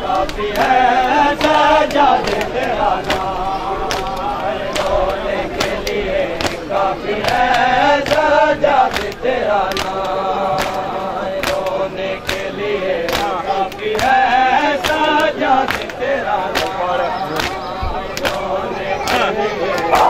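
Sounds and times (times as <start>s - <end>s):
men chanting in unison: 0.0s - 20.0s
hands slapping bare chests: 0.1s - 20.0s.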